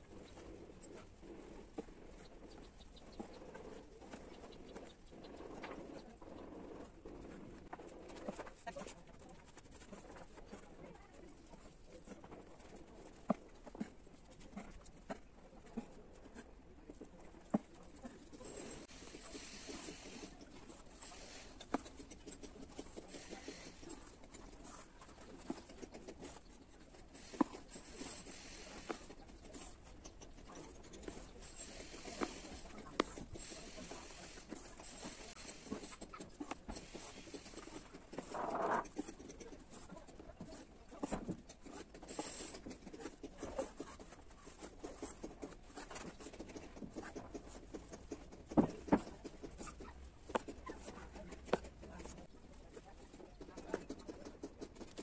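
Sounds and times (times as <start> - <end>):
needle and thread pulled through cloth: 0.0 - 55.0.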